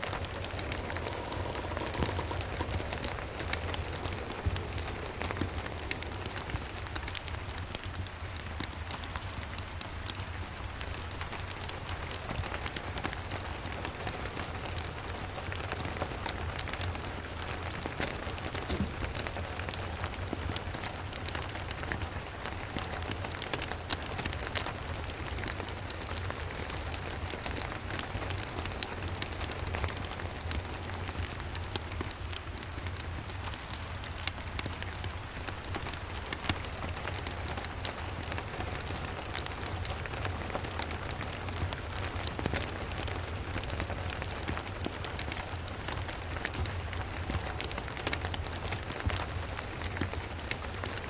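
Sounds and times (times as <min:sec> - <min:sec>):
crackling fireplace: 0:00.0 - 0:51.0
steady rain: 0:00.0 - 0:51.0.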